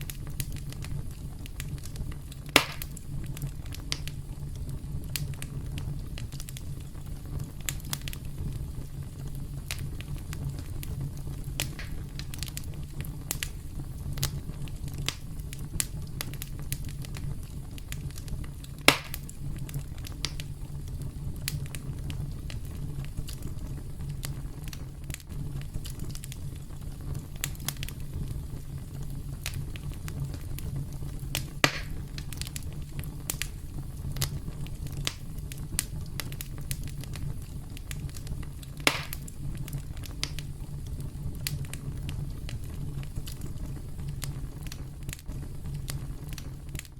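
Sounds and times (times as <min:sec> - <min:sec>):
burning wood popping: 0:00.0 - 0:46.9
campfire flames rumbling: 0:00.0 - 0:46.9
fire crackling: 0:00.0 - 0:46.9.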